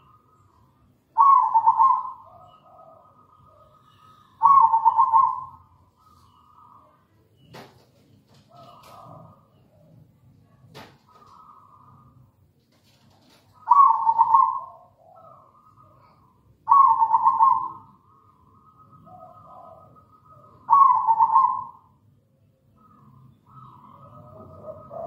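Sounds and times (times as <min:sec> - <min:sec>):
dove cooing: 0:01.1 - 0:06.9, 0:08.3 - 0:12.2, 0:12.8 - 0:21.9, 0:22.8 - 0:25.0.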